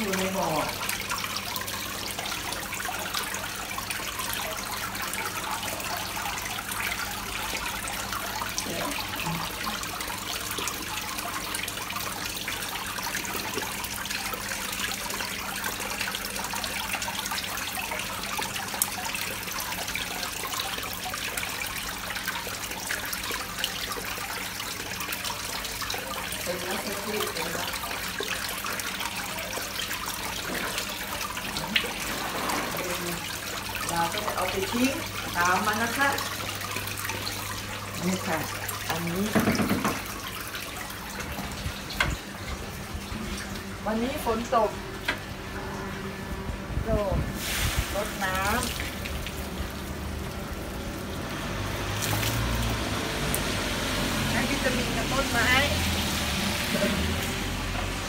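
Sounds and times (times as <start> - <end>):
water running and splashing: 0.0 - 58.0.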